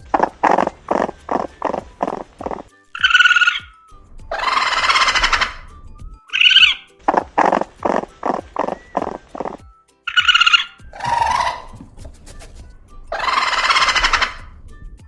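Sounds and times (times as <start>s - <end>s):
raccoon chittering and screeching: 0.0s - 14.6s.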